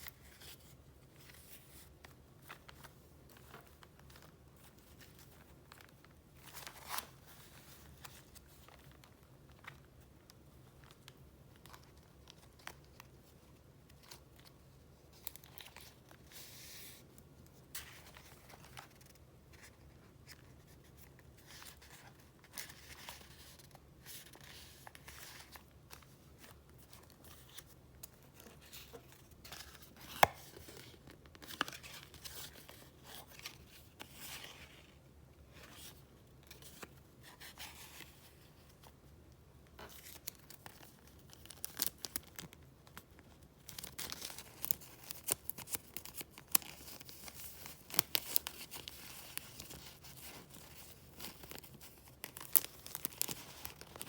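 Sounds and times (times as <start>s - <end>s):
paper rustling and crinkling: 0.0s - 39.0s, 39.7s - 54.0s.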